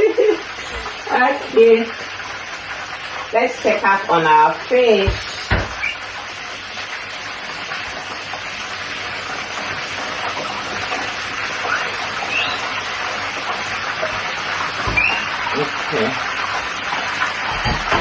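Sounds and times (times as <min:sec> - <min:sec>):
fish frying in hot oil: 0:00.0 - 0:18.0.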